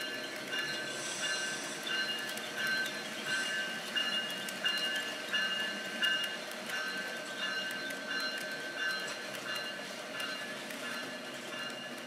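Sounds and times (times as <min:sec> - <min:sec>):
model train wheels clicking on rails: 0:00.0 - 0:12.0.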